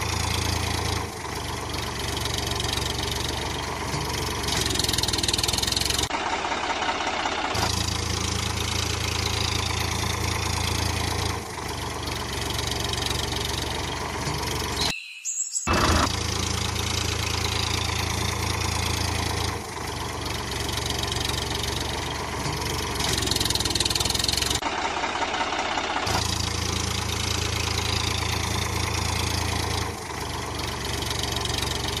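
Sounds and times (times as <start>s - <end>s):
engine idling with knocking beat: 0.0s - 14.8s, 15.9s - 32.0s.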